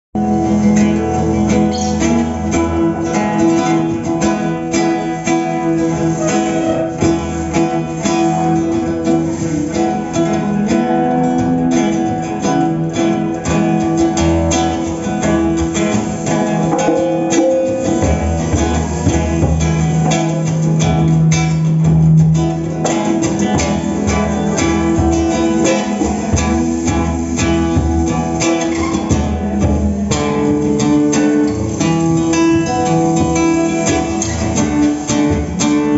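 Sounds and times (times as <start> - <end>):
plucked string ensemble: 0.2 - 35.9.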